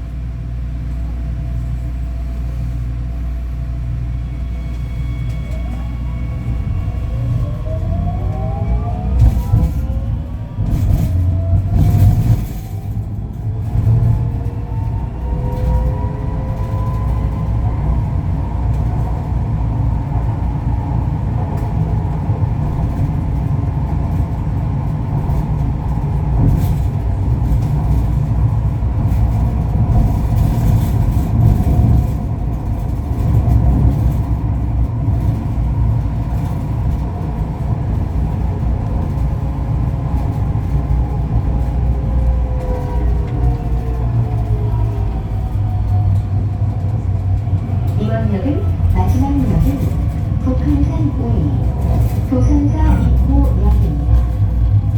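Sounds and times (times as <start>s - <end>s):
wheels rumbling on track: 0.0s - 54.9s.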